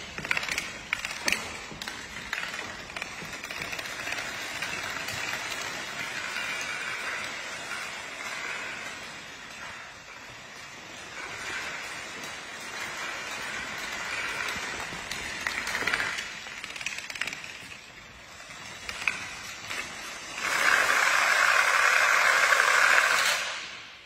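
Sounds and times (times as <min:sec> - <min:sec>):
dominoes toppling clatter: 0:00.0 - 0:23.9.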